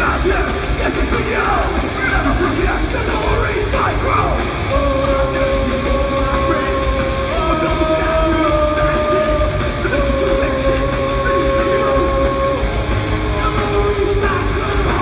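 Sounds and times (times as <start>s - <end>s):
punk band playing live: 0.0s - 15.0s.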